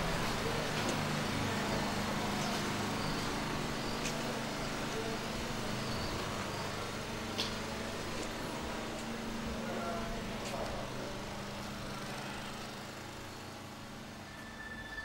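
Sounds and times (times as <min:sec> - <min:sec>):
distant traffic rumble: 0:00.0 - 0:14.2.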